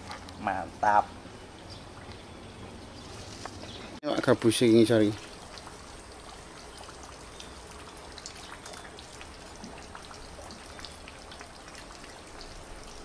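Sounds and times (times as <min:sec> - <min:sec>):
drips splashing on pond: 0:00.0 - 0:13.0
water trickling: 0:00.0 - 0:13.0.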